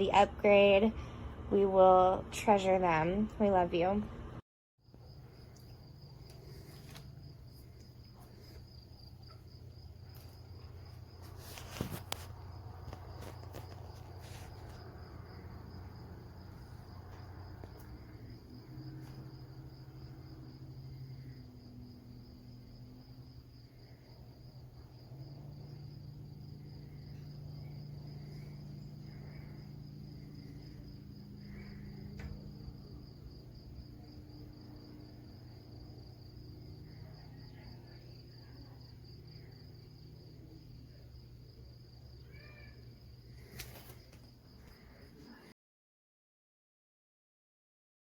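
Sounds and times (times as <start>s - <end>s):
low hum: 0.0s - 41.7s
crickets trilling: 4.8s - 45.5s.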